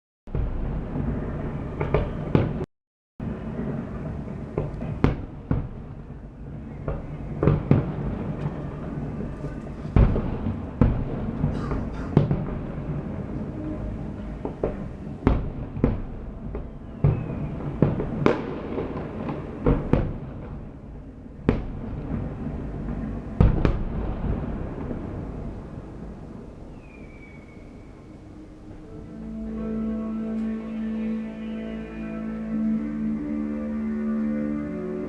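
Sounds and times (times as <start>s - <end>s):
firework crackle: 0.4s - 28.8s.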